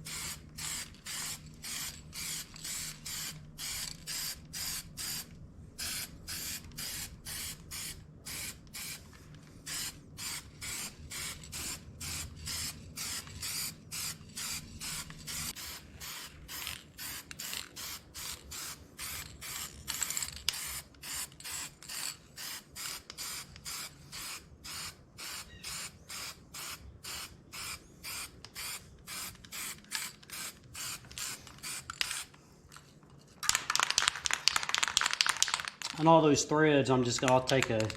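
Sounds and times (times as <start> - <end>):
spray paint hissing bursts: 0.0 - 32.3.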